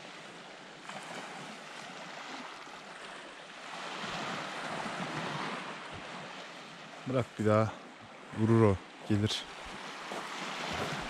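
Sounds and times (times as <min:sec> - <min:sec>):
small waves washing on shore: 0:00.0 - 0:11.0.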